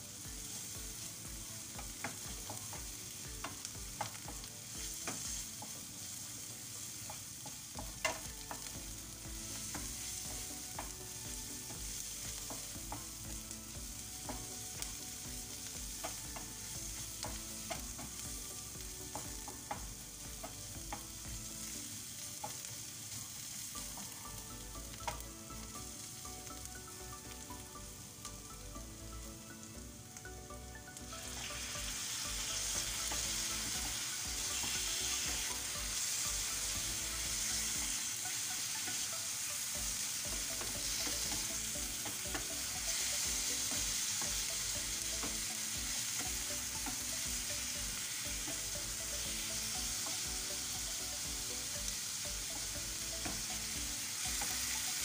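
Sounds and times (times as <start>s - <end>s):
onions sizzling in a frying pan: 0.0s - 55.0s.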